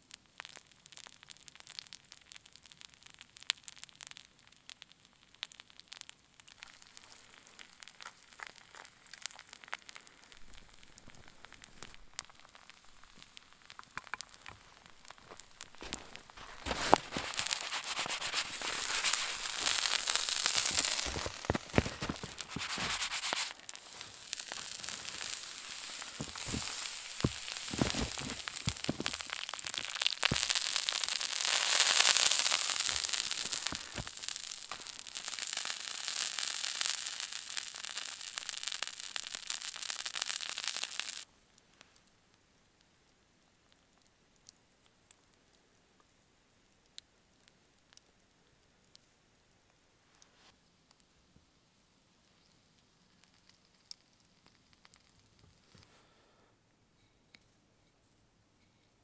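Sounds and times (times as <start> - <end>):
sap sizzling and crackling: 0.0 - 51.1, 51.7 - 56.3.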